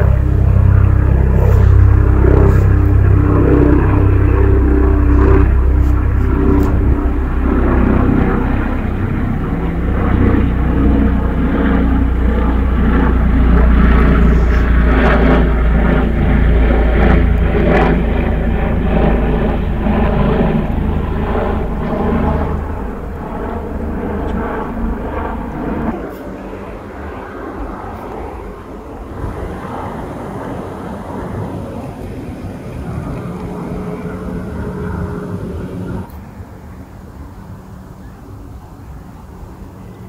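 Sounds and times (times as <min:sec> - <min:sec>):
low engine rumble: 0:00.0 - 0:40.0
traffic noise: 0:00.0 - 0:40.0.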